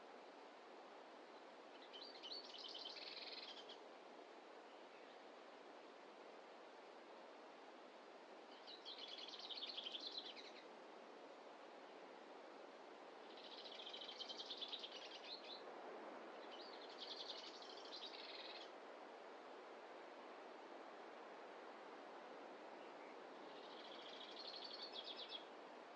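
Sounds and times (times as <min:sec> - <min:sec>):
faint forest hiss: 0:00.0 - 0:25.9.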